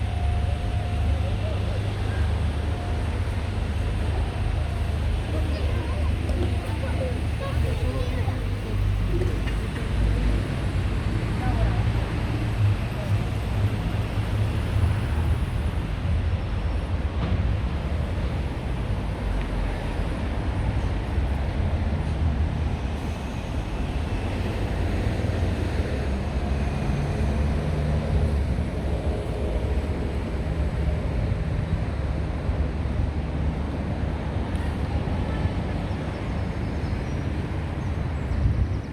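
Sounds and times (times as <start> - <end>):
vehicle rumble with road noise: 0.0 - 38.9.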